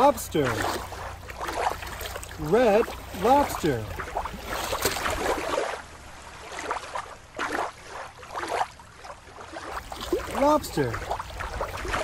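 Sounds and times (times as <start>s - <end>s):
water sloshing and gurgling: 0.0s - 12.0s
water splashing: 0.0s - 12.0s.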